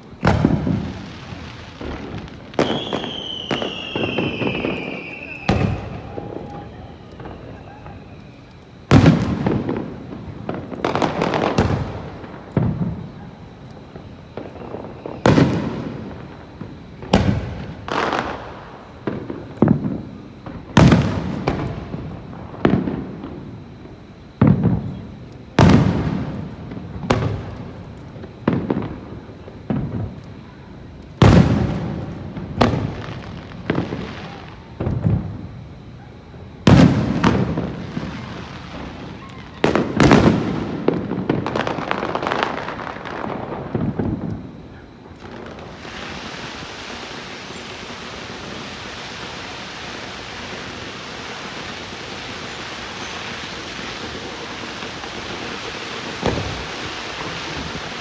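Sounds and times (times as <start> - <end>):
firework shells booming: 0.0 - 58.0.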